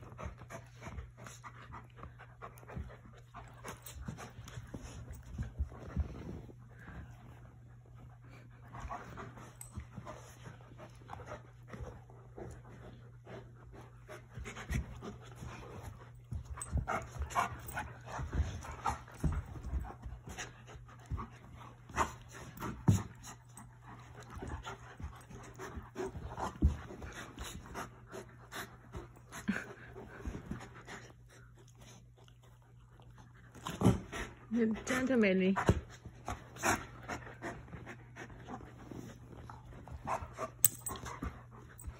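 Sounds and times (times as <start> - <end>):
puppies panting: 0.0 - 41.9.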